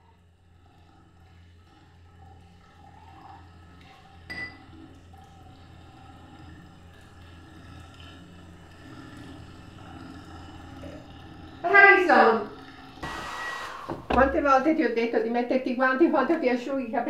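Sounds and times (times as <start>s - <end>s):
tap water running into sink: 1.2s - 15.4s.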